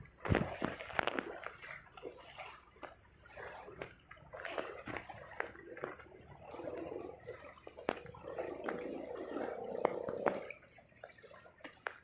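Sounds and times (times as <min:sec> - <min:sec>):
floodwater splashing and sloshing: 0:00.0 - 0:12.0.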